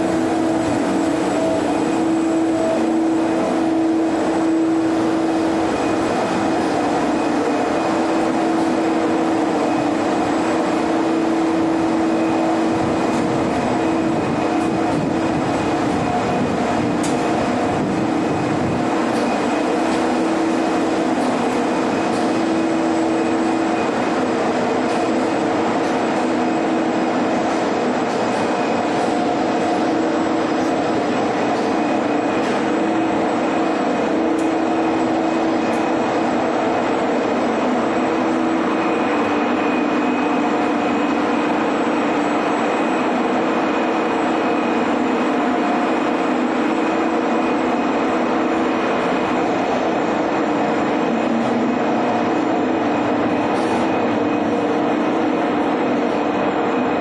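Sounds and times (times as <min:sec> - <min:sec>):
ship machinery humming: 0:00.0 - 0:57.0.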